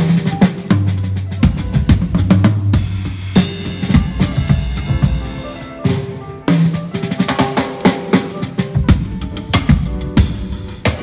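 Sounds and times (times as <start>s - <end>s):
drum kit groove with fills: 0.0s - 11.0s.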